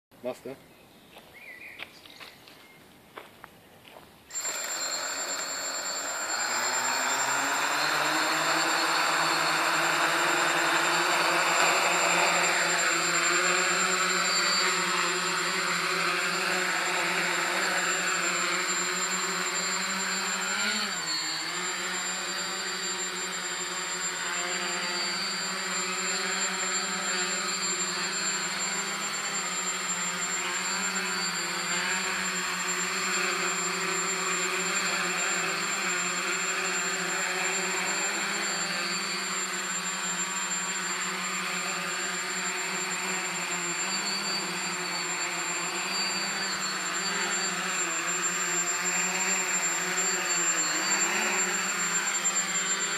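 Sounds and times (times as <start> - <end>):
quadcopter motors whirring: 3.9 - 52.9.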